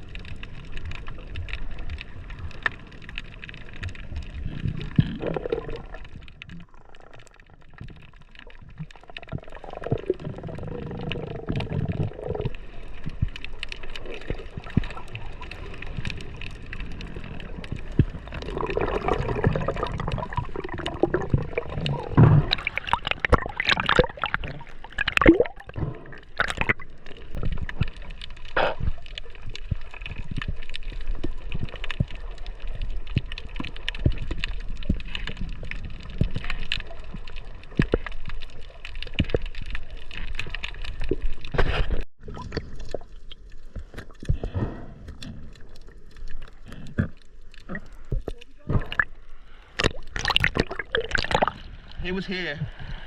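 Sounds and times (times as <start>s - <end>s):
water gurgling and sloshing: 0.0s - 53.0s.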